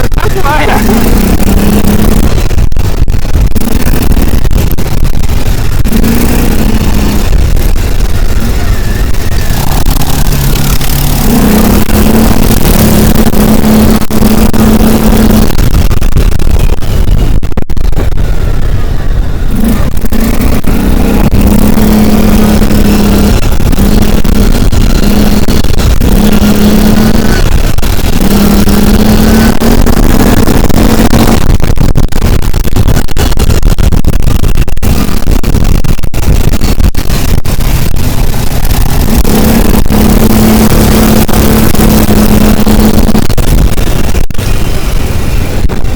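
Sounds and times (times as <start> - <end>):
vehicle engine and road noise: 0.0 - 45.9.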